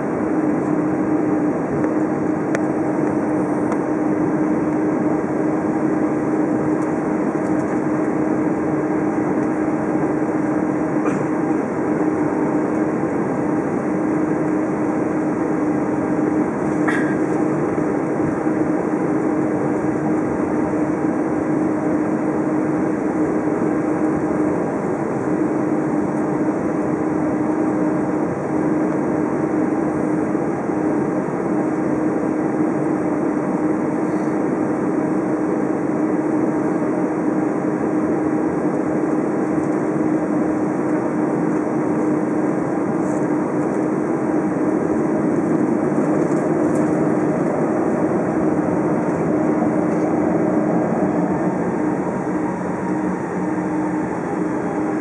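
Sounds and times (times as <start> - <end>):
constant low hum: 0.0 - 55.0
jet engine drone from cabin: 0.0 - 55.0.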